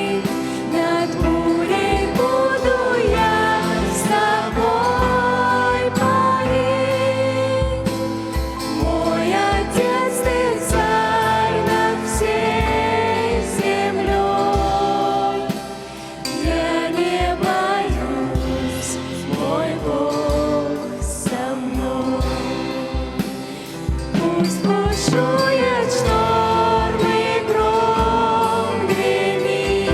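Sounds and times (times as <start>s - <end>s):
choir singing worship song: 0.0s - 29.9s.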